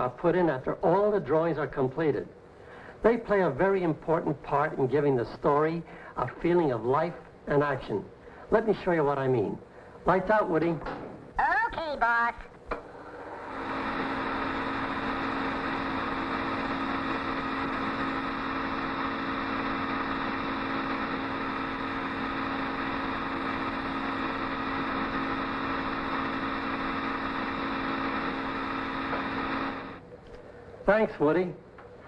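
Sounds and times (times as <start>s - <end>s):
film projector whirring: 0.0s - 32.0s.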